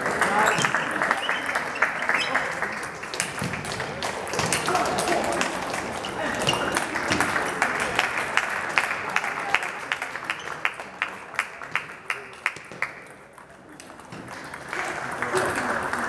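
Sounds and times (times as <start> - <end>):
sports hall clatter and murmur: 0.0 - 16.0.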